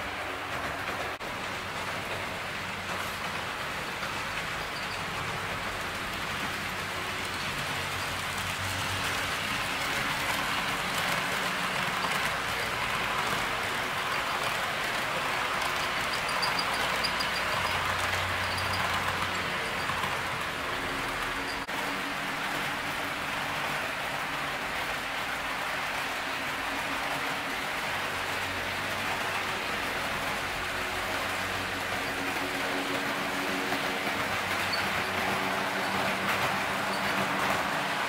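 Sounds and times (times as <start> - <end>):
model train wheels on rails: 0.0 - 38.0.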